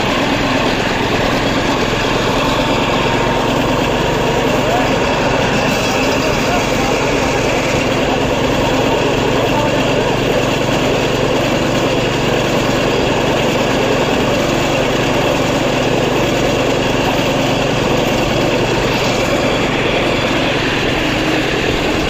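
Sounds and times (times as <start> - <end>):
road noise rushing: 0.0 - 22.0
vehicle engine droning: 0.0 - 22.0.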